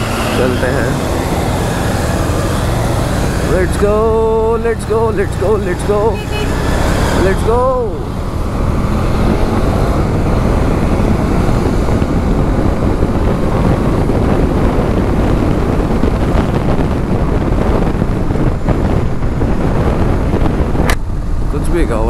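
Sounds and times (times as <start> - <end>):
motorcycle engine running: 0.0 - 21.5
wind buffeting microphone: 0.0 - 22.0.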